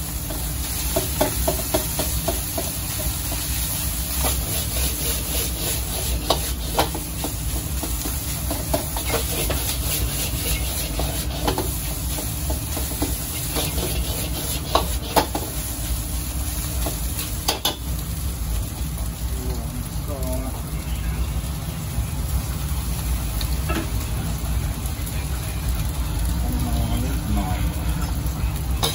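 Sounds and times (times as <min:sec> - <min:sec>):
rice sizzling in hot pan: 0:00.0 - 0:28.9.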